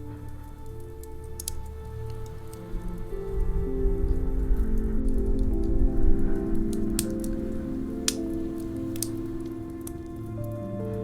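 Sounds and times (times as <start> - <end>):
soft background music: 0.0 - 11.0
wood fire crackling: 0.0 - 11.0.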